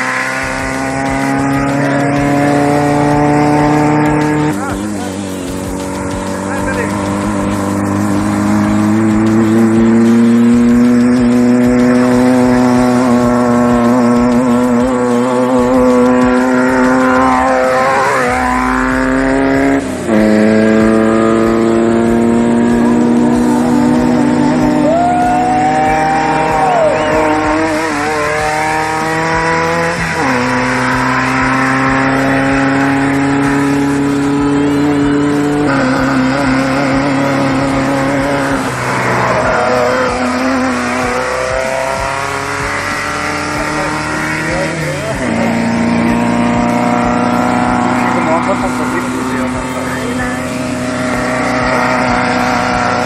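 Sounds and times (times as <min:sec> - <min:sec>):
race vehicle engine accelerating: 0:00.0 - 0:53.0.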